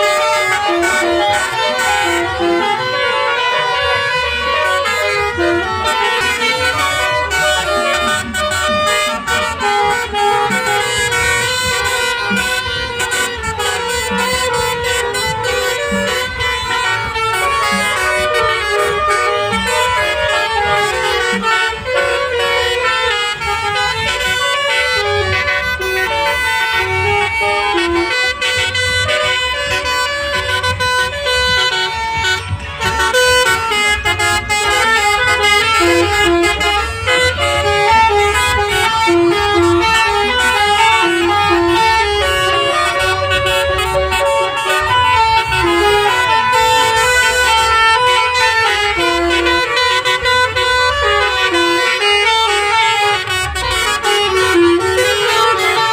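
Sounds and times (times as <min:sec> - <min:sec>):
low engine rumble: 0:00.0 - 0:55.9
multi-tone air horn melody: 0:00.0 - 0:55.9.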